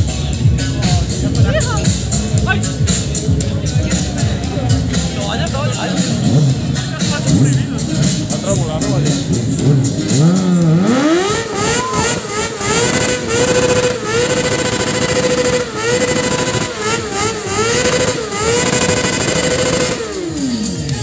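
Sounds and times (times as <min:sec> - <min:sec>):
motorcycle engine revving hard: 0:00.0 - 0:21.0.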